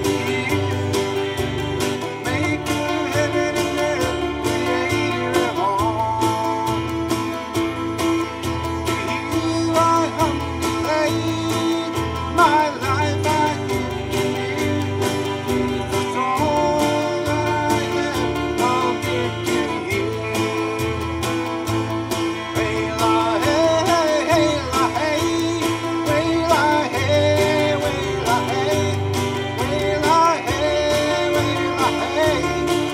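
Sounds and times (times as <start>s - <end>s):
low bass line: 0.0s - 32.9s
man singing into microphone: 0.0s - 32.9s
strummed acoustic guitar: 0.0s - 32.9s.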